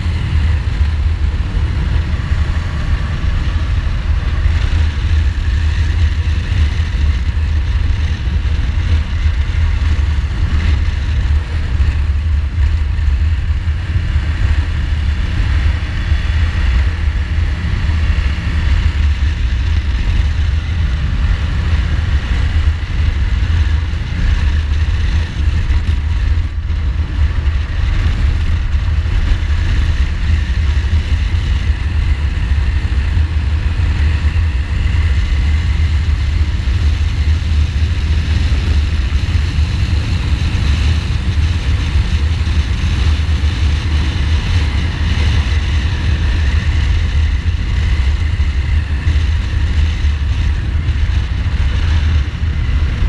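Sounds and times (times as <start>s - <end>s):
motorcycle engine running: 0.0s - 53.0s
wind rumble on microphone: 0.0s - 53.0s.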